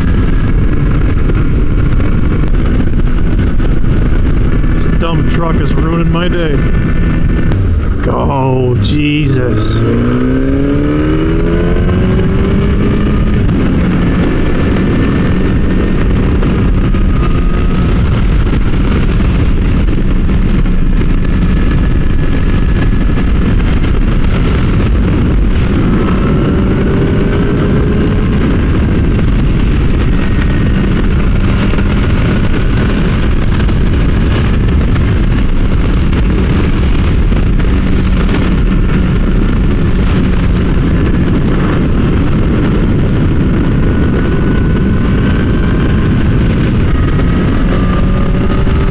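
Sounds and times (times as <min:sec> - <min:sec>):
dense rushing noise: 0:00.0 - 0:48.9
motorcycle engine revving: 0:00.0 - 0:48.9.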